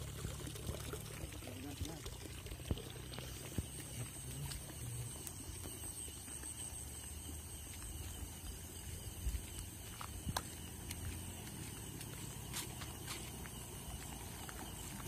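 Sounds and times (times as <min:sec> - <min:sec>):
night insects droning: 0:00.0 - 0:15.0
footsteps on path: 0:02.7 - 0:15.0.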